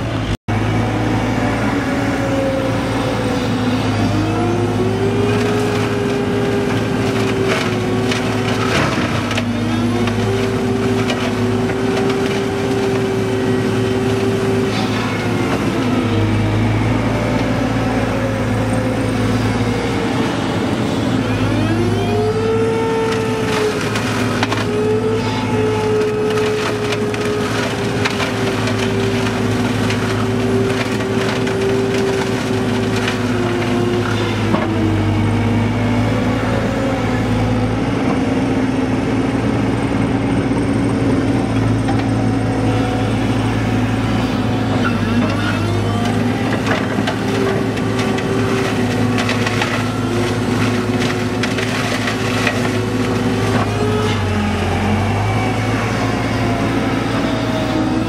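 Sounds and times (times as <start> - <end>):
mulching machine droning: 0.0 - 58.0
wood crackling and splintering: 0.1 - 38.5, 40.6 - 58.0.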